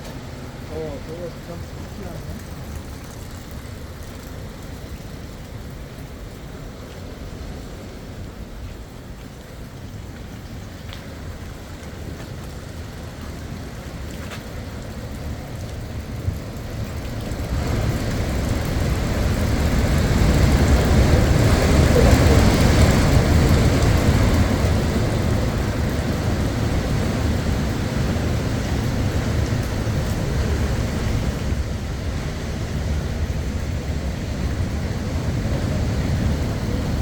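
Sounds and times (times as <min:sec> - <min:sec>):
wind blowing across microphone: 0:00.0 - 0:37.0.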